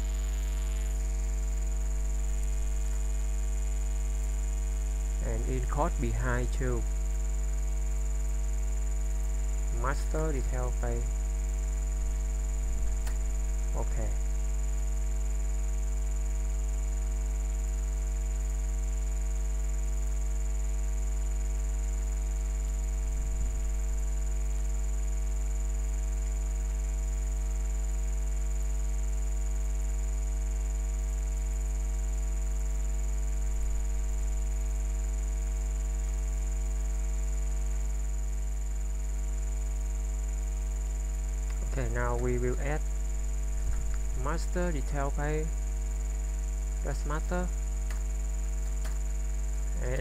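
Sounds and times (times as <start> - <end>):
electrical hum and buzz: 0.0 - 50.0
faint high whine: 0.0 - 50.0.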